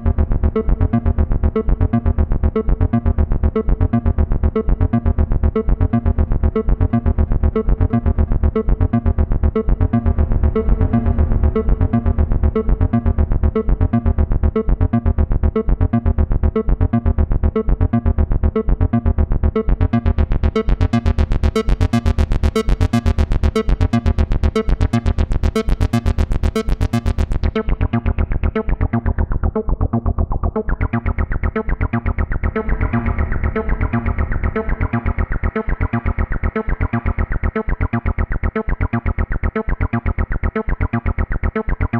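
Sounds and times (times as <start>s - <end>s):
synthesizer bass sequence: 0.0s - 41.9s.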